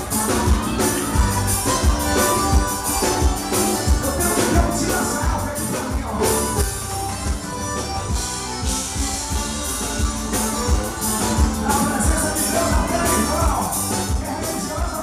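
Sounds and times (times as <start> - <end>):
instrumental band music: 0.0 - 15.0.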